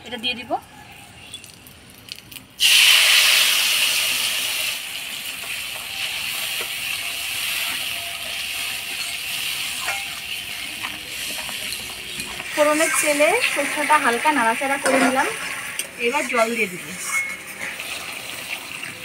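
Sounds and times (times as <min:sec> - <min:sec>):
paste sizzling in hot oil: 0:01.4 - 0:19.0.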